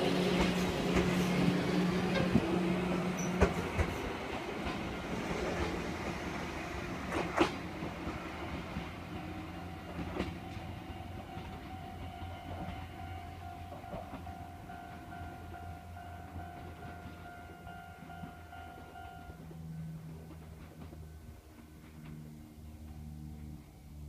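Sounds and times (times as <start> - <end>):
electric train rumbling: 0.0 - 24.0
wheels clicking over rail joints: 0.3 - 6.2, 7.0 - 23.5.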